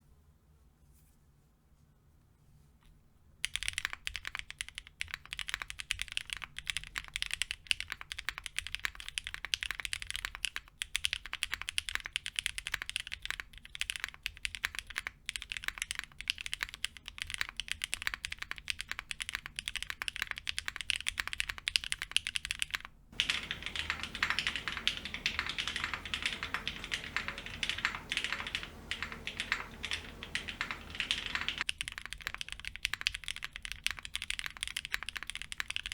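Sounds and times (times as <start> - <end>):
mechanical keyboard typing: 3.4 - 35.9.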